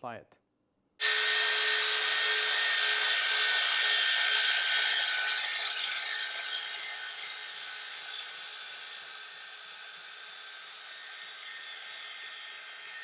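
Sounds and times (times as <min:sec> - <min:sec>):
power tool whine: 0:01.0 - 0:13.0.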